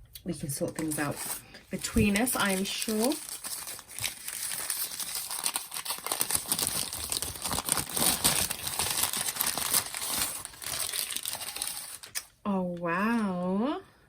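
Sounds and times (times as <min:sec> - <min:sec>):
packaging crinkling and rustling: 0:00.6 - 0:12.4.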